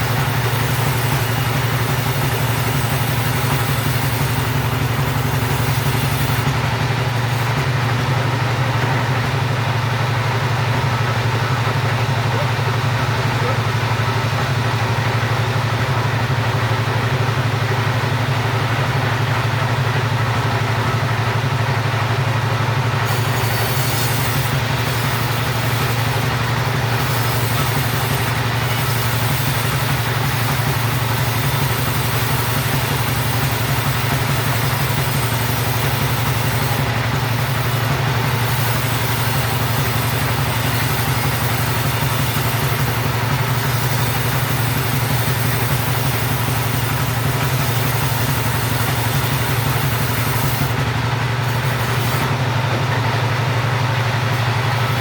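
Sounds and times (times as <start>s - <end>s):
chainsaw running steadily: 0.0s - 55.0s.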